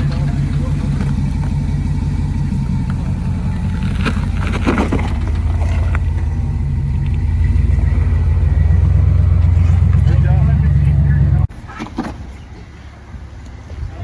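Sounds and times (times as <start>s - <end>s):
engine running at low revs: 0.0s - 11.5s.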